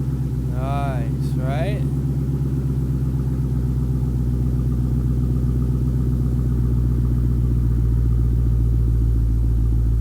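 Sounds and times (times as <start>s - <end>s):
car engine idling loud: 0.0s - 10.0s.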